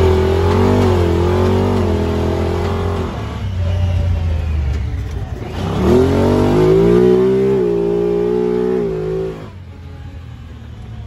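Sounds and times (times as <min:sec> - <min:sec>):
utility vehicle engine accelerating: 0:00.0 - 0:11.0.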